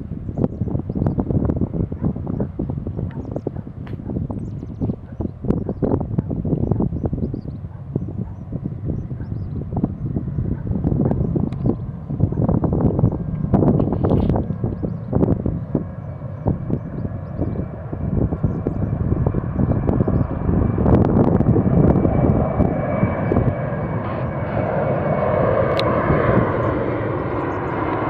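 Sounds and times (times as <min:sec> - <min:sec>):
high jet engine whine: 0:00.0 - 0:28.0
jet engines at takeoff power: 0:00.0 - 0:28.0.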